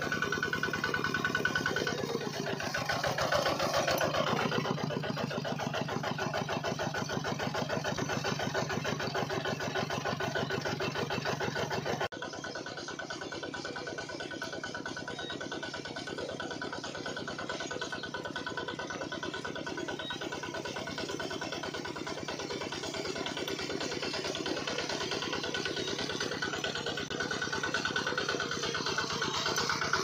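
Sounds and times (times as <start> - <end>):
toy water pump pulsing: 0.0 - 30.0.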